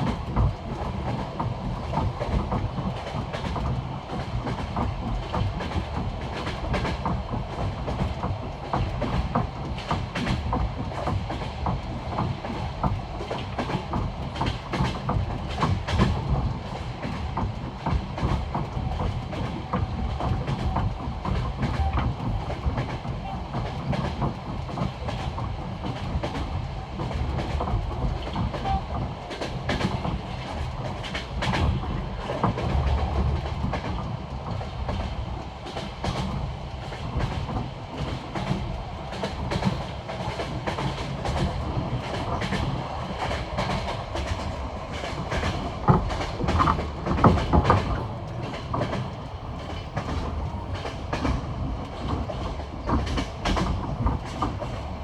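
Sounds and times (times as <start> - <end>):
train wheels clicking on rail joints: 0.0 - 55.0.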